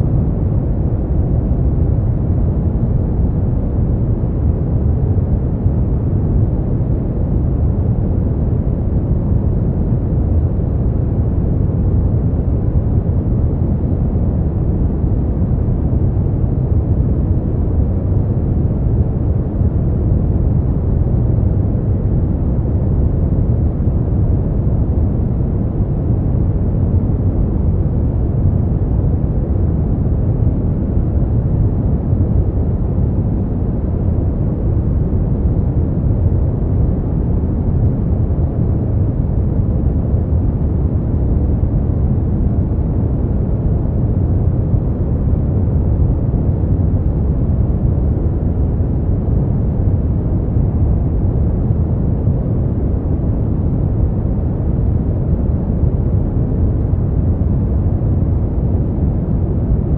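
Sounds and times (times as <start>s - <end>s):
deep steady brown noise: 0.0s - 59.9s.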